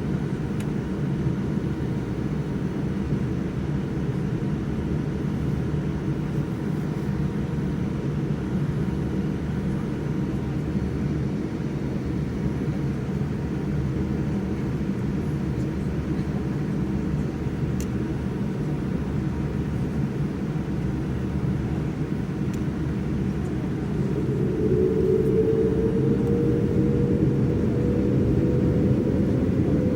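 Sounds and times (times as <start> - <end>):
jet airliner low rumble: 0.0 - 29.9.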